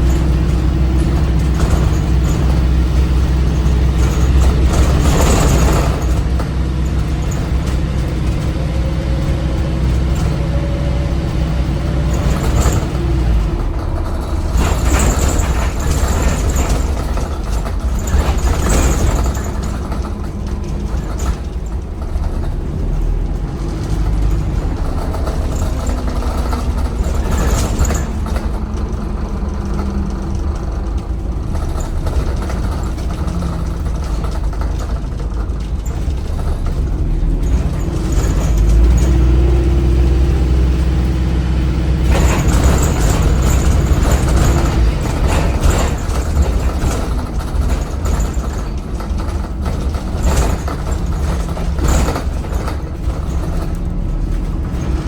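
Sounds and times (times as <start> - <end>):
diesel bus engine rumbling: 0.0 - 55.0.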